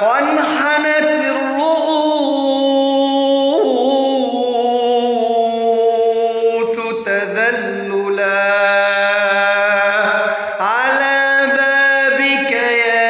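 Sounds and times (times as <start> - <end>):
man singing long ornamented notes: 0.0 - 13.0.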